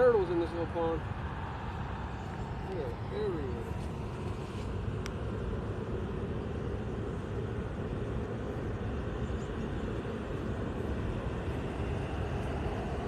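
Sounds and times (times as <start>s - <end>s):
steady low outdoor rumble: 0.0s - 13.0s.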